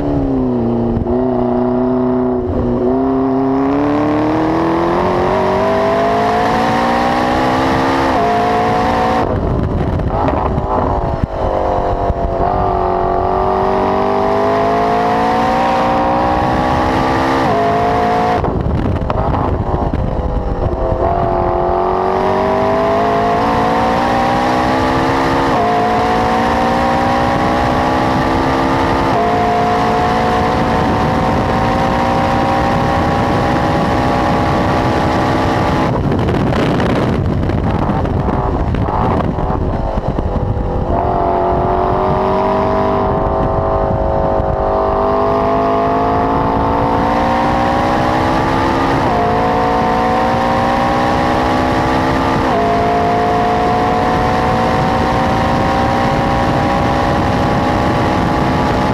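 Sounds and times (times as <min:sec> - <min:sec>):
sports car engine revving: 0:00.0 - 0:58.9.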